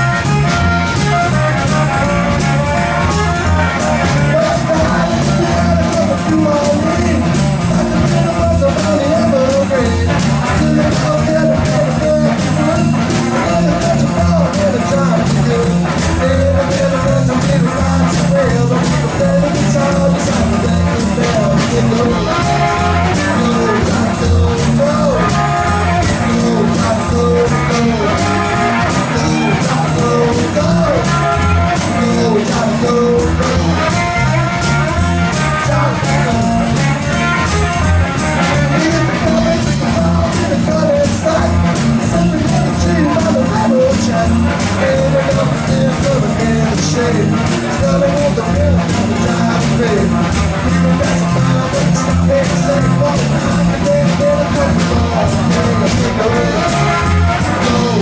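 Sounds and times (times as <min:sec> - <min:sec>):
rock and roll band playing: 0:00.0 - 0:58.0.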